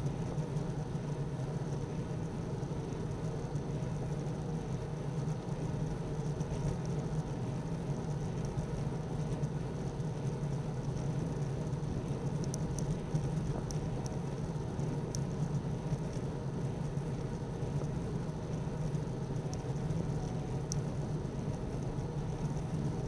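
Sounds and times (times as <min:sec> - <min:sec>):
bicycle tyre road noise: 0:00.0 - 0:23.0
faint high whine: 0:00.0 - 0:23.0.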